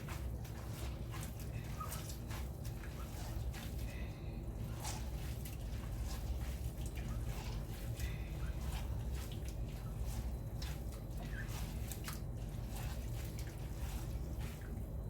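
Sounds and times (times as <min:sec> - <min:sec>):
grated potato squished by hand: 0:00.0 - 0:15.0
steady low hum: 0:00.0 - 0:15.0
water dripping and splashing: 0:00.0 - 0:15.0.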